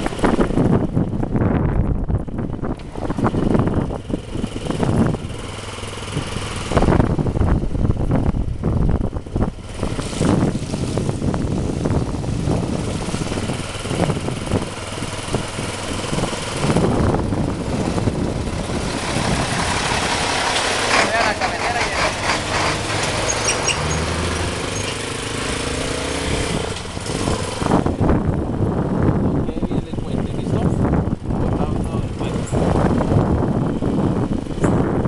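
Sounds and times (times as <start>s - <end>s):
motorcycle engine running: 0.0s - 35.0s
wind buffeting microphone: 0.0s - 35.0s.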